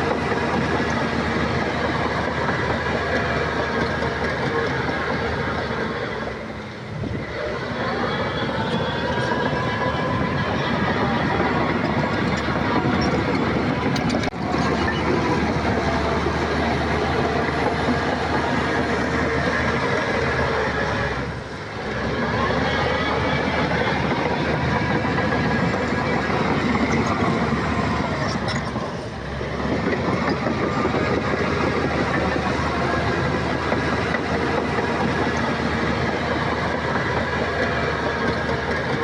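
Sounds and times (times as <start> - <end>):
bulldozer diesel engine: 0.0 - 39.0
bulldozer tracks clattering: 0.0 - 39.0.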